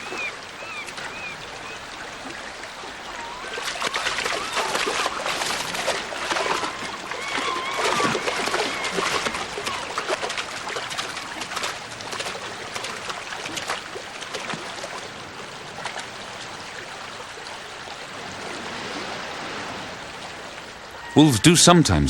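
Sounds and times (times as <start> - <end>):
shallow river running: 0.0 - 22.0
water splashes: 0.0 - 22.0.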